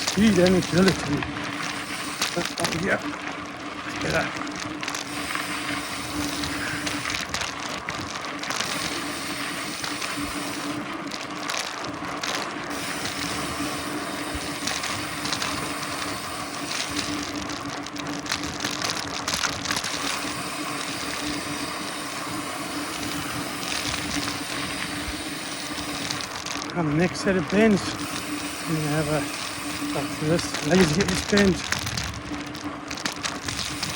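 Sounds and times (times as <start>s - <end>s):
scattered clicks: 0.0s - 3.1s, 3.9s - 33.9s
bike rattling: 0.0s - 33.9s
bike tyres on dirt trail: 0.0s - 33.9s
constant low hum: 0.0s - 33.9s.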